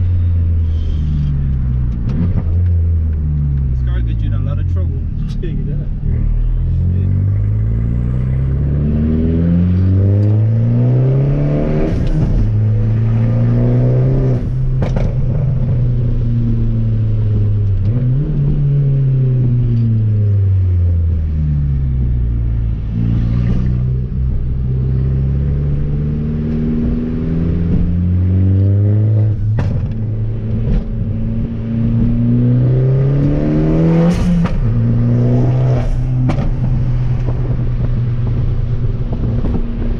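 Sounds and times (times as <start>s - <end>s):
car engine revving through gears: 0.5s - 39.9s.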